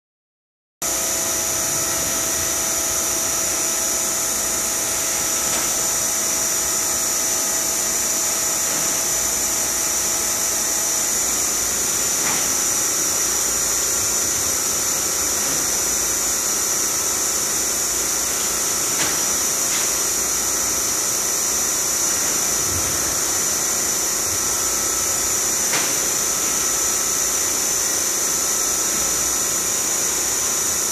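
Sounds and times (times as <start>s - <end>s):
machine hum: 0.8s - 30.9s.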